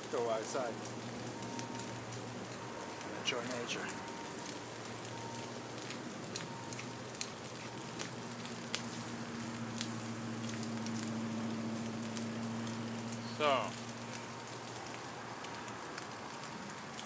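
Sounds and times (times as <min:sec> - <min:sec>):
low steady hum: 0:00.0 - 0:17.0
sharp crackles: 0:00.0 - 0:17.0.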